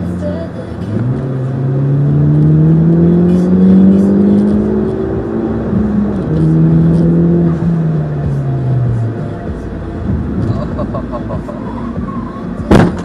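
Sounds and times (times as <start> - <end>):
vehicle engine accelerating: 0.0 - 13.0.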